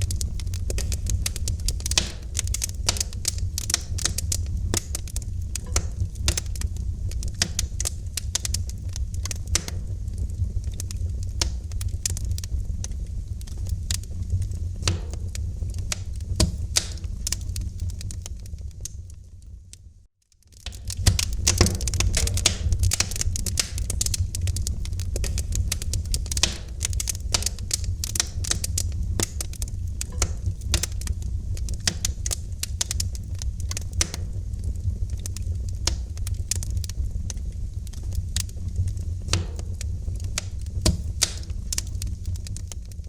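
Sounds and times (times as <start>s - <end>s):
low rumble of burning fire: 0.0s - 43.0s
wood fire pops and snaps: 0.0s - 43.0s.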